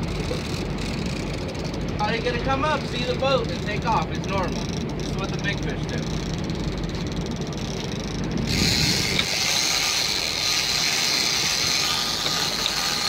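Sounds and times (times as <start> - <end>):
fishing reel drag screaming: 0.2 - 13.0.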